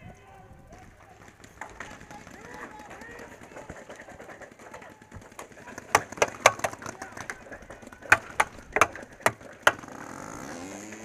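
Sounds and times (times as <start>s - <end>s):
paintball markers firing: 0.7s - 11.0s
paintballs striking: 0.7s - 11.0s.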